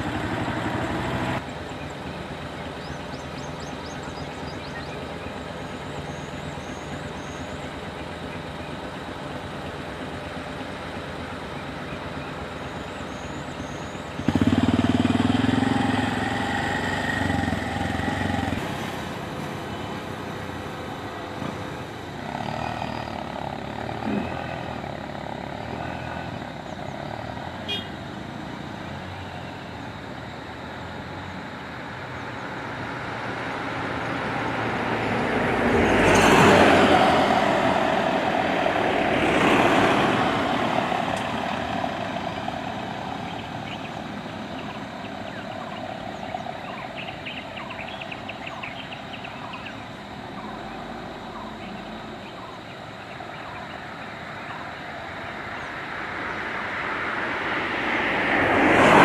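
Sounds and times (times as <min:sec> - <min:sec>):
cars driving past: 0:00.0 - 0:59.0.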